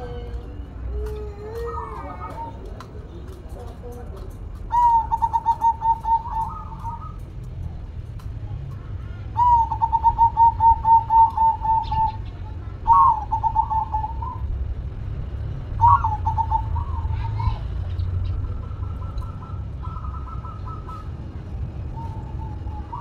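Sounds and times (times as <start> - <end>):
dove cooing: 0.0 - 2.7, 4.6 - 7.3, 8.6 - 14.6, 15.7 - 23.0.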